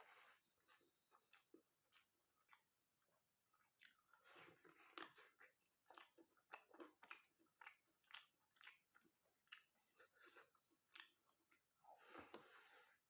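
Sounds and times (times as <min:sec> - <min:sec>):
chewing food with moist crunches: 0:00.0 - 0:13.0.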